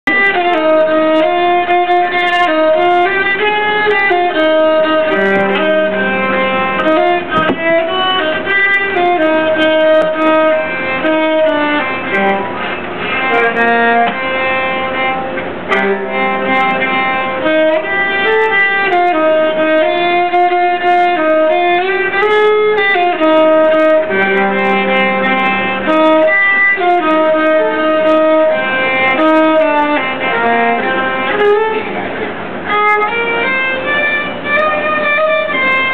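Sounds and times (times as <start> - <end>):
keyed fiddle playing a tune: 0.0 - 35.9.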